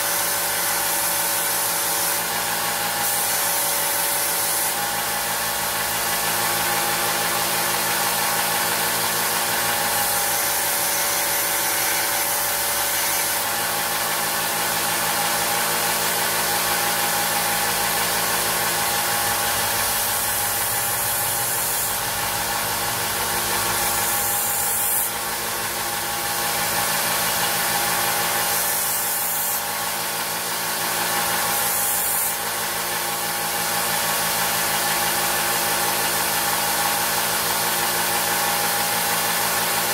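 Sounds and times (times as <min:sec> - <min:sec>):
blade rasping on sanding belt: 0:00.0 - 0:37.5
belt sander running: 0:00.0 - 0:39.9.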